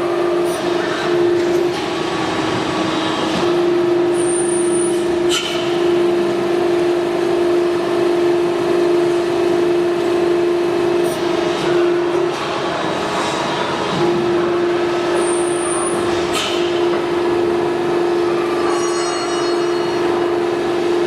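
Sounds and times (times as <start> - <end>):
press brake machine hum: 0.0 - 21.0.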